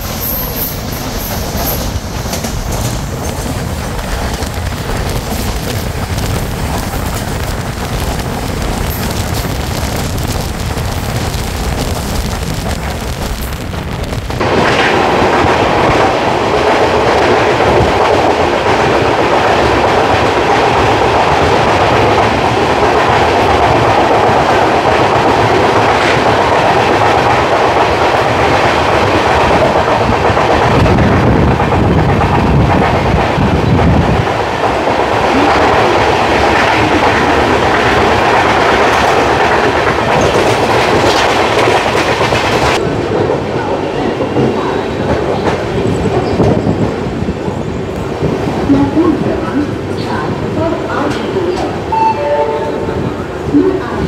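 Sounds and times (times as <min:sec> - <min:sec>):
clickety-clack of rail joints: 0:00.0 - 0:51.8
train wheels rumbling on track: 0:00.0 - 0:54.0.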